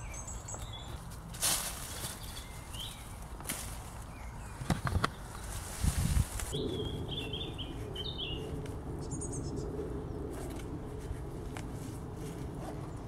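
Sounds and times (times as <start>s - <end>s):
low outdoor rumble: 0.0s - 13.0s
small birds chirping: 0.0s - 13.0s.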